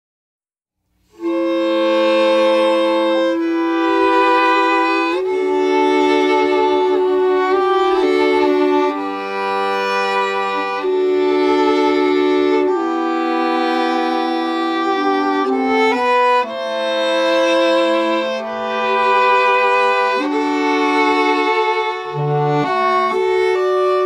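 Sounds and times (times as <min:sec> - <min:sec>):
bowed strings playing chords: 0:01.0 - 0:24.0.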